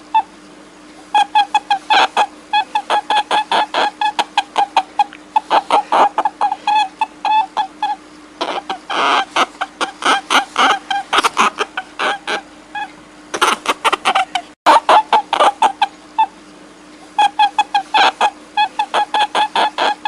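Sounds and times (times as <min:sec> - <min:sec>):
short pitched animal calls: 0:01.0 - 0:16.4, 0:17.0 - 0:20.0.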